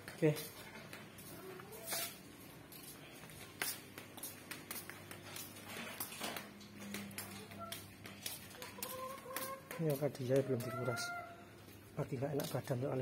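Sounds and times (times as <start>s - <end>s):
flip-flop footsteps on concrete: 0.0s - 11.2s.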